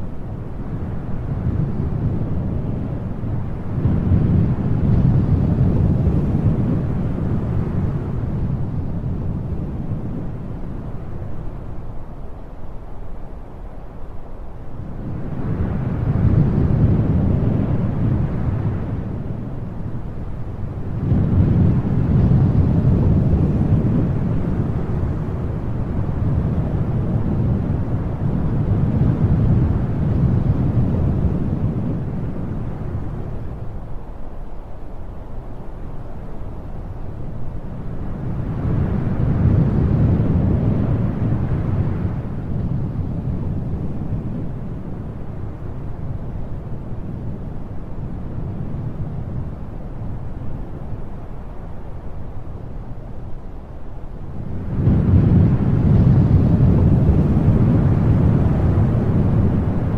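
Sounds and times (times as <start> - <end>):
wind blowing: 0.0 - 59.9.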